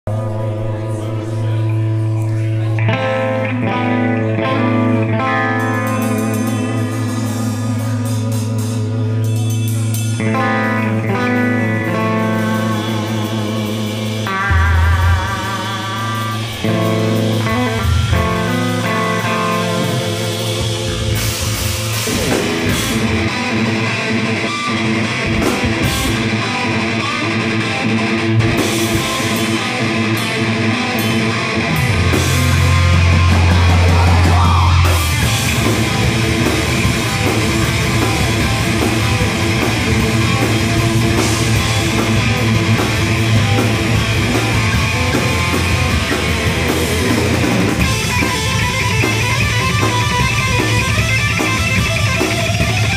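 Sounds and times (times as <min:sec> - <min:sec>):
heavy rock band playing: 0:00.1 - 0:52.9.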